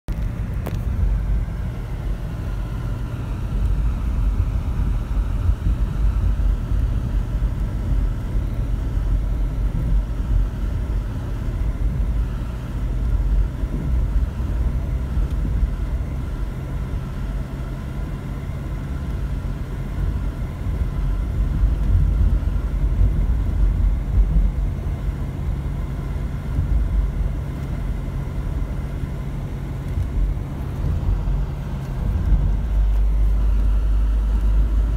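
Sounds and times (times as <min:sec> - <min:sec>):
car interior road rumble: 0:00.1 - 0:34.9.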